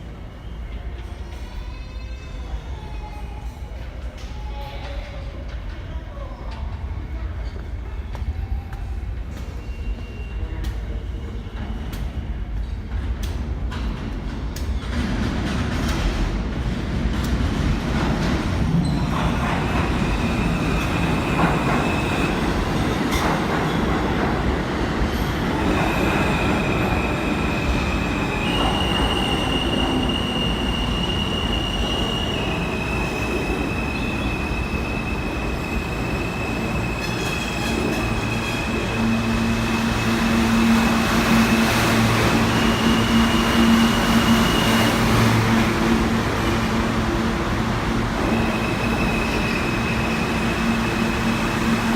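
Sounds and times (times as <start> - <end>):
subway train rumbling: 0.0 - 51.9.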